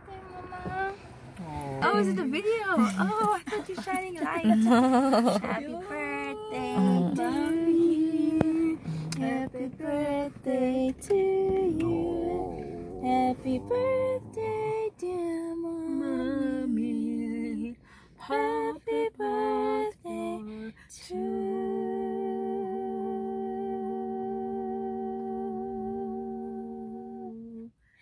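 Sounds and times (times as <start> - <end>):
women singing without accompaniment: 1.8 - 27.7.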